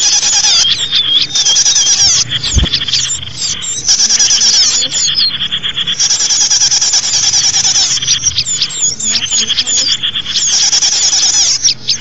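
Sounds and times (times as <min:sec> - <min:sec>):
songbirds twittering: 0:00.0 - 0:12.0.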